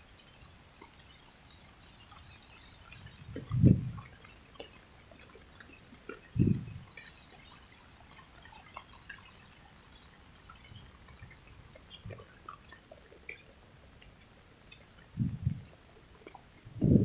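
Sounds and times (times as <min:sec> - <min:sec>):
raindrops dripping and plinking: 0:00.0 - 0:17.0.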